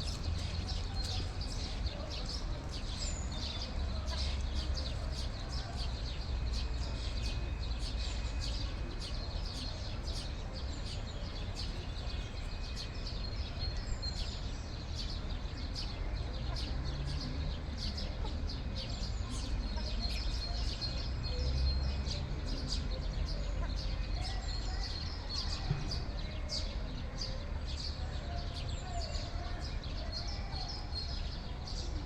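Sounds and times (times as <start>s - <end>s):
small birds peeping and chirping: 0.0s - 32.0s.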